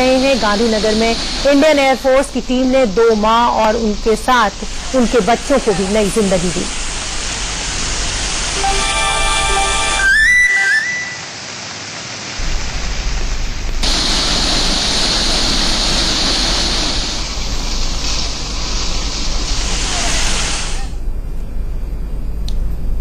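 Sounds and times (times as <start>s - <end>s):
rushing floodwater roar: 0.0s - 21.0s.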